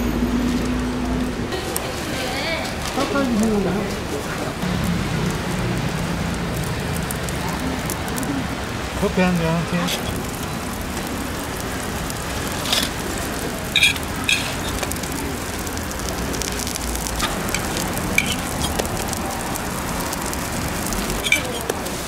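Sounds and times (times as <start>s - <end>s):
pancakes sizzling in oil: 1.5s - 22.0s.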